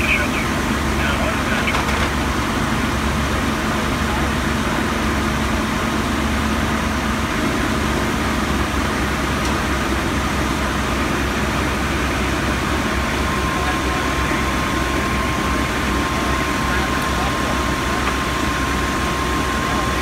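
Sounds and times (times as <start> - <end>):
diesel engines and pumps droning: 0.0 - 20.0.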